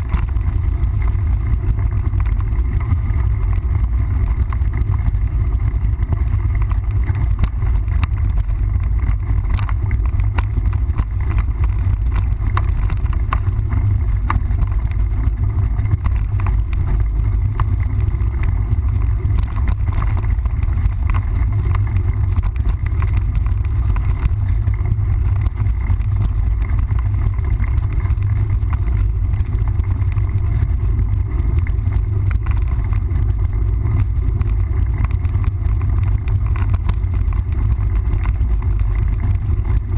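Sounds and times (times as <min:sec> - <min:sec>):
bike rattles and knocks: 0:00.0 - 0:39.9.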